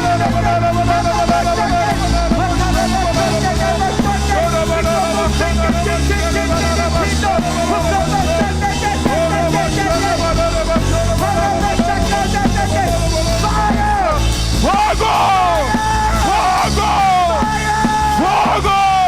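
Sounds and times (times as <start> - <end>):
many voices singing: 0.0 - 19.0
rock-style worship music: 0.0 - 19.0.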